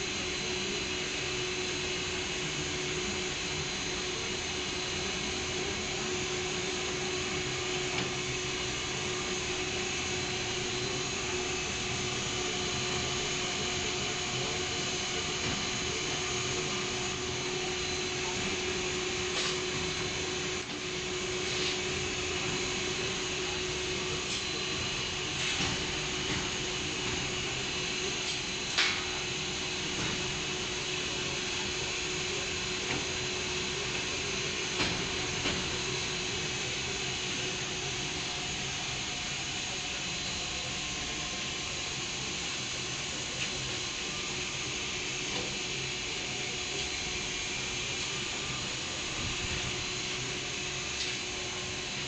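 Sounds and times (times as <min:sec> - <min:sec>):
furnace hissing: 0:00.0 - 0:52.0.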